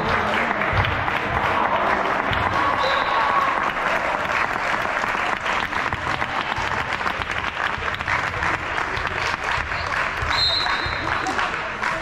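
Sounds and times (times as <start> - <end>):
spectators applauding: 0.0 - 12.0.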